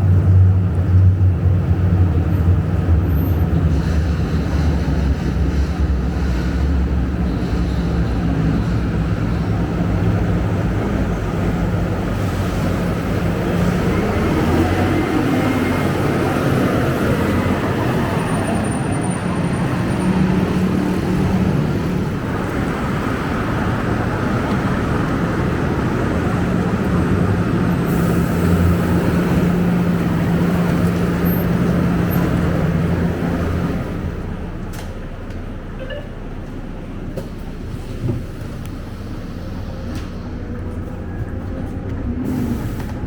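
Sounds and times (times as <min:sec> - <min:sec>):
bus diesel engine running: 0:00.0 - 0:43.0.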